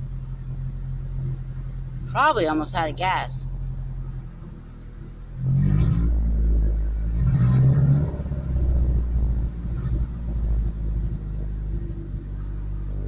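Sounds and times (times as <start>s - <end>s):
truck engine running rough: 0.0s - 13.0s.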